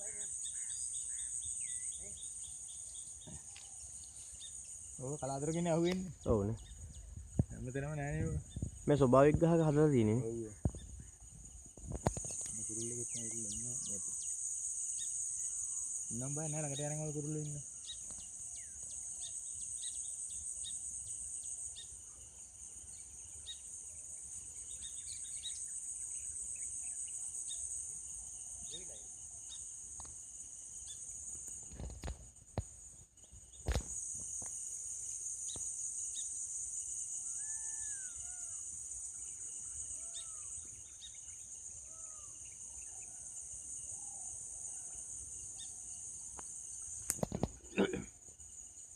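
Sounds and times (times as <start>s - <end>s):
small birds chirping: 0.0s - 48.8s
high-pitched insect chorus: 0.0s - 48.9s.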